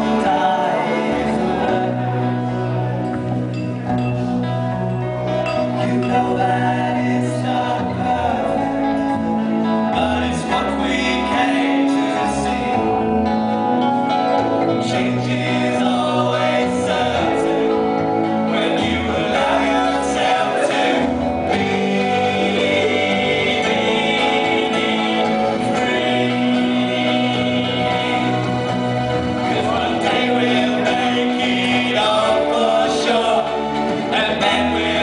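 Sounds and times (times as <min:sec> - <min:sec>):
person singing: 0:00.0 - 0:03.2, 0:05.0 - 0:35.0
rock band playing live: 0:00.0 - 0:35.0.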